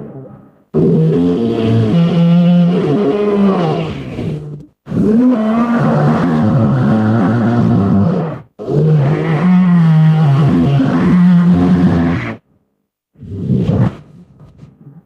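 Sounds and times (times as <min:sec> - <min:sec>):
monster bellowing: 0:00.0 - 0:12.4.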